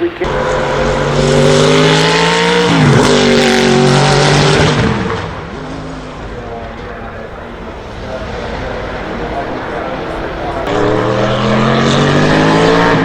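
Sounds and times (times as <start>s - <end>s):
racing car engine at full throttle: 0.0s - 13.0s.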